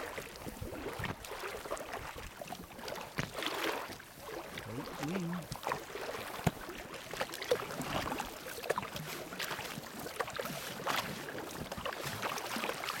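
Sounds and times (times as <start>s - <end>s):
paddle splashing in water: 0.0s - 13.0s
water lapping at kayak: 0.0s - 13.0s.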